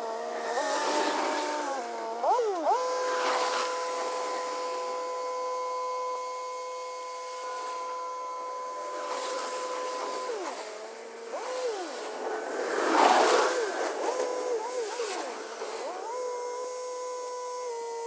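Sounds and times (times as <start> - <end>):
distant tractor and tiller whine: 0.0 - 18.0.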